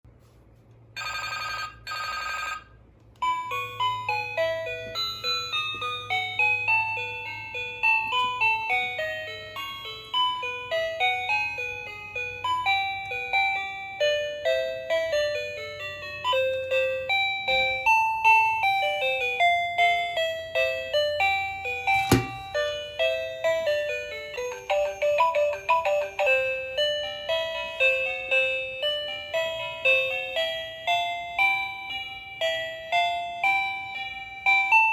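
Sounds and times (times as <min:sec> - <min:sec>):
toy phone trilling ringtone: 0:01.0 - 0:34.9.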